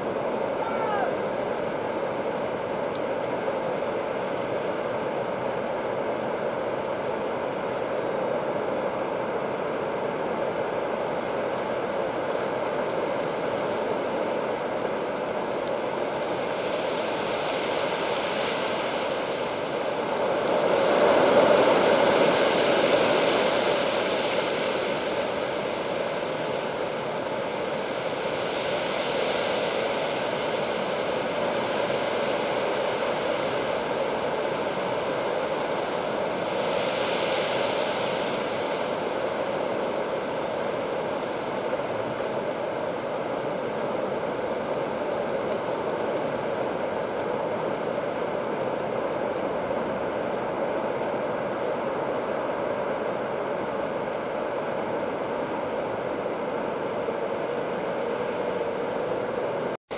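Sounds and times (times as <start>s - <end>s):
rain: 0.0s - 59.8s
wind: 0.0s - 59.9s.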